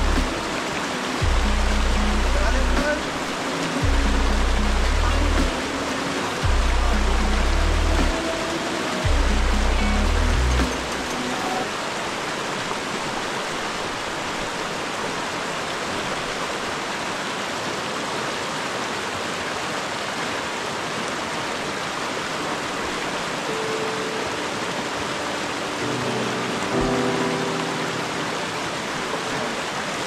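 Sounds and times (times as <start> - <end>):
water rushing over rocks: 0.0 - 30.0.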